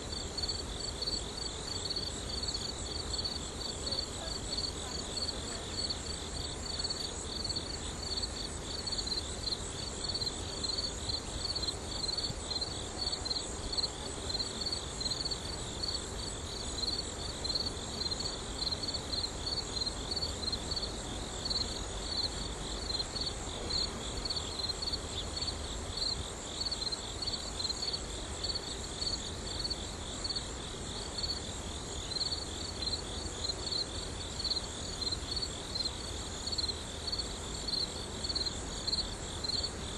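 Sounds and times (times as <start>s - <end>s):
insects chirping in a trill: 0.0s - 39.9s.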